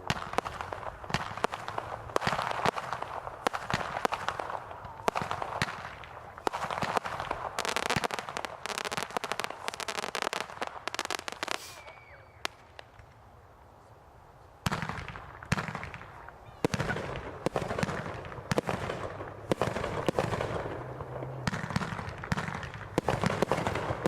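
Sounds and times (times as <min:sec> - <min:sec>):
fireworks bangs: 0:00.0 - 0:13.2, 0:14.6 - 0:24.0
fireworks crackling: 0:00.0 - 0:24.0.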